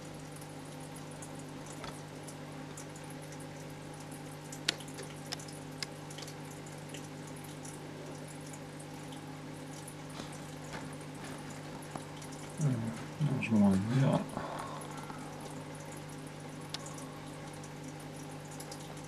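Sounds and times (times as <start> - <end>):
aquarium filter humming: 0.0 - 19.0
water trickling: 0.0 - 19.0.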